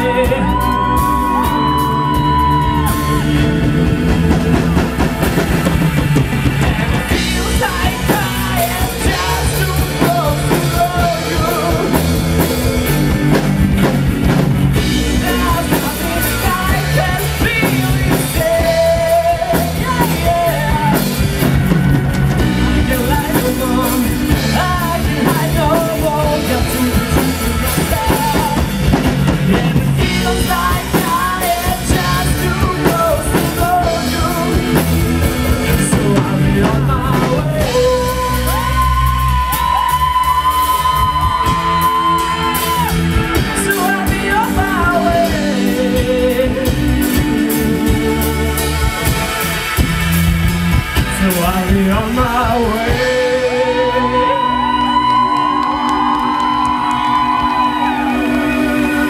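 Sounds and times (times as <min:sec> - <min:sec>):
lead singer singing: 0:00.0 - 0:49.8, 0:50.8 - 0:59.0
rock band playing live: 0:00.0 - 0:59.0.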